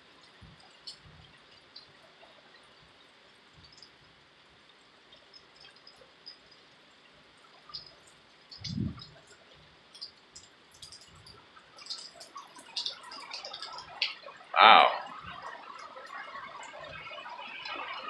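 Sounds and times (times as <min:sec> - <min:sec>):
light rain dripping: 0:00.0 - 0:18.0.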